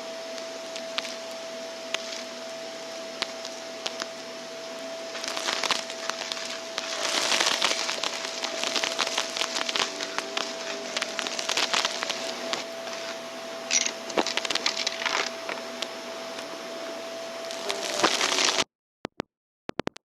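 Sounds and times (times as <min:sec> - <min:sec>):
vacuum cleaner whine: 0:00.0 - 0:18.6
debris crackling in vacuum: 0:00.3 - 0:15.9, 0:17.4 - 0:18.6.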